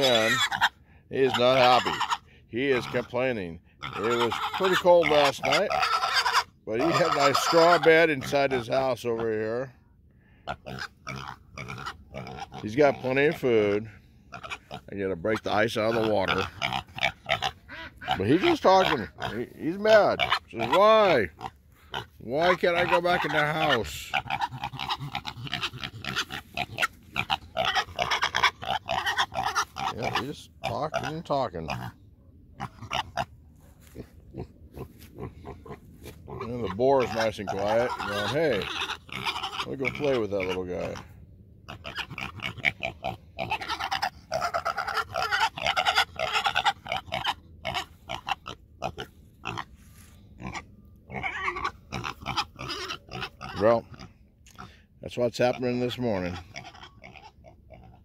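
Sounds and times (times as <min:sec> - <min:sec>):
piglet calling: 0:00.0 - 0:09.7, 0:10.3 - 0:54.8, 0:55.4 - 0:58.0.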